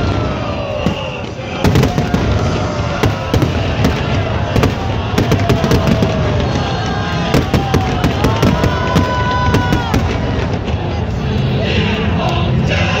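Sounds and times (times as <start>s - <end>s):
fireworks bangs: 0.0s - 11.2s
fireworks crackle and rumble: 0.0s - 12.2s.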